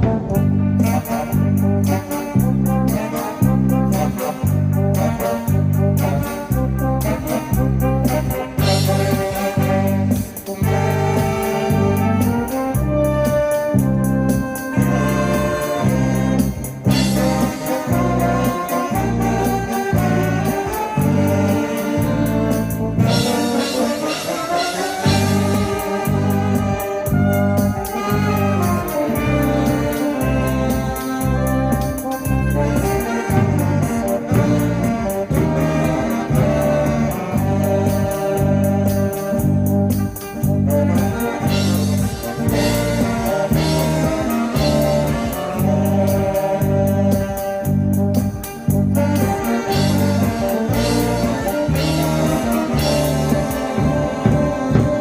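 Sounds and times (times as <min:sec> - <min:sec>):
brass or saxophone melody: 0:00.0 - 0:55.0
live band playing: 0:00.0 - 0:55.0
pulsing bass line: 0:00.0 - 0:55.0.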